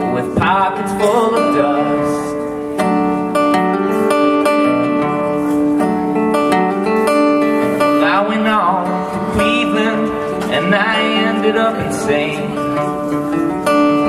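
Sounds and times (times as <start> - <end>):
acoustic guitar strumming: 0.0 - 14.0
person singing folk song: 0.0 - 14.0.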